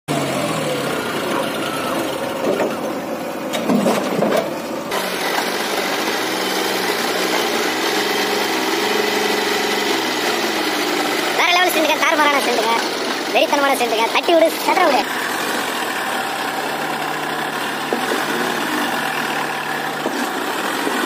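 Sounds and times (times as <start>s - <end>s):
diesel engines running: 0.1s - 21.0s.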